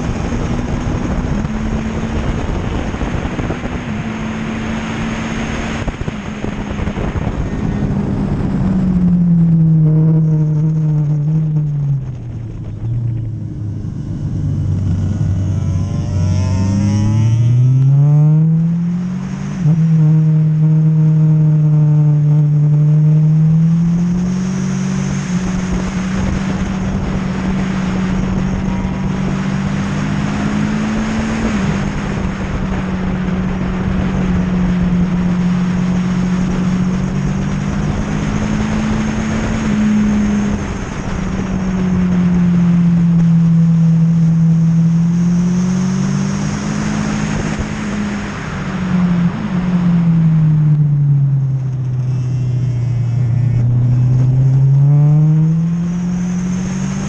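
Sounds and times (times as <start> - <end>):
motorcycle engine at speed: 0.0 - 57.0
wind noise on microphone: 0.0 - 57.0.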